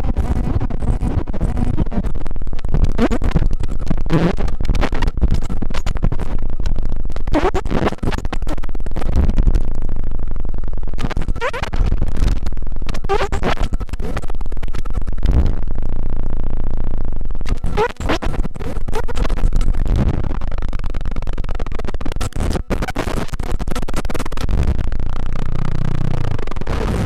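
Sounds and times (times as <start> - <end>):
deep synthesizer drone: 0.0 - 27.0
synthesizer crackling noise: 0.0 - 27.0.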